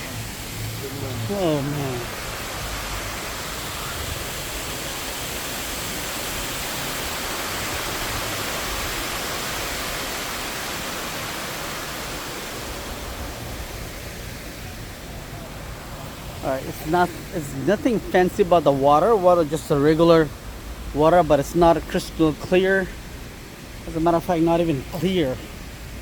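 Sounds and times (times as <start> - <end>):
rush of falling water: 0.0 - 26.0.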